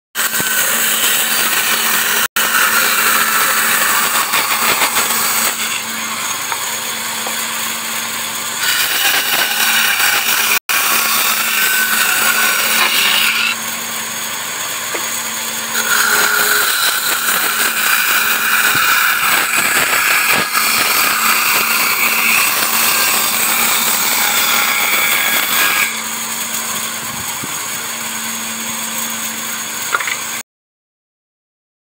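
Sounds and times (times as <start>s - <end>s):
bandsaw cutting wood: 0.2s - 30.4s.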